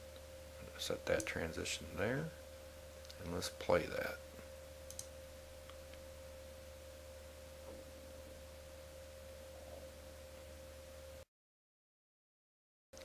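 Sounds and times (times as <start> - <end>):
electrical hum and hiss: 0.0 - 11.3.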